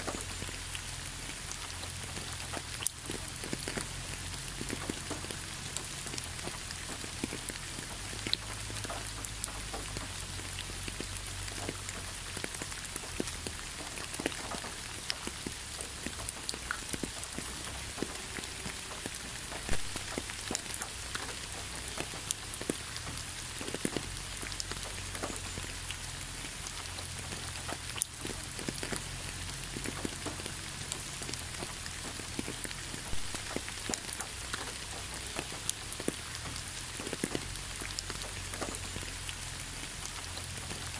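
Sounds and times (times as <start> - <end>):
rain falling on leaves: 0.0 - 40.9
raindrops ticking: 0.0 - 40.9.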